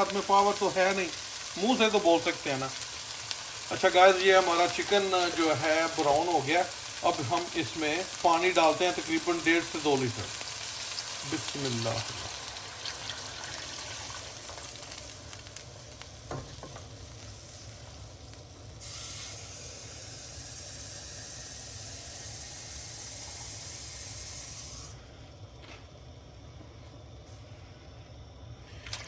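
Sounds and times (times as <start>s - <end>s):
water hissing in hot pot: 0.0s - 25.0s.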